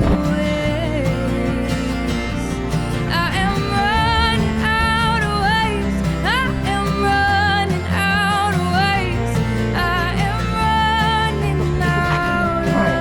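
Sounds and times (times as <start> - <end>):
instrumental background music: 0.0 - 13.0.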